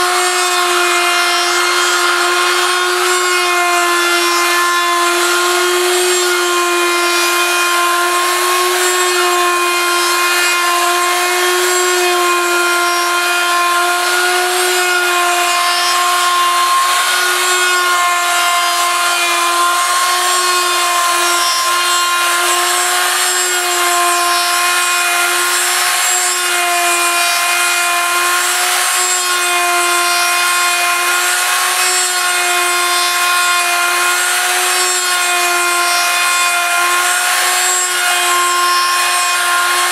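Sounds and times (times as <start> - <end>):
router bit shaving wood: 0.0 - 39.9
router motor whining: 0.0 - 39.9.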